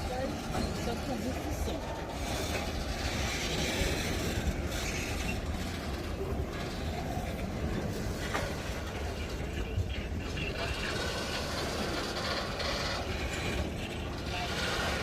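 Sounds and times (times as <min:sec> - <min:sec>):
freight train wagons rumbling: 0:00.0 - 0:15.0
sharp clicks of train wheels: 0:00.0 - 0:15.0.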